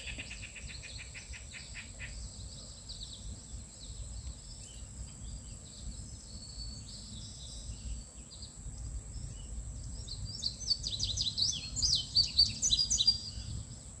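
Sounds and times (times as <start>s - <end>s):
low wind rumble: 0.0s - 14.0s
songbird chirping: 0.0s - 14.0s.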